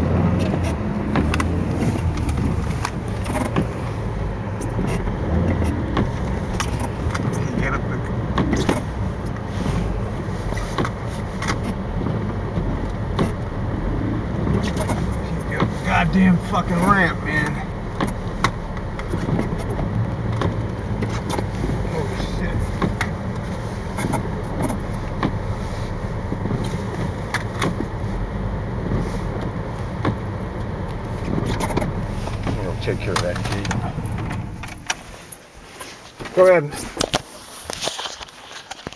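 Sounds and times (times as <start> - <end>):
truck engine and tyres rumbling: 0.0 - 38.9.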